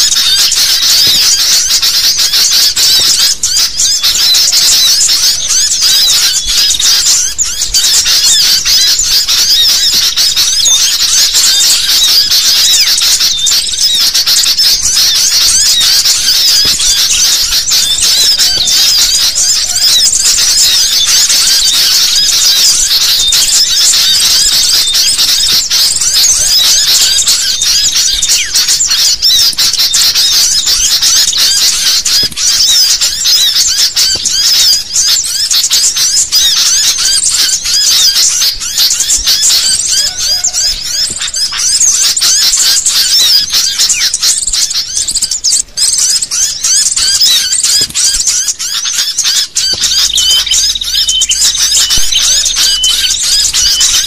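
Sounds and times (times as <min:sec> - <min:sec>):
flock of birds chattering: 0:00.0 - 0:54.0.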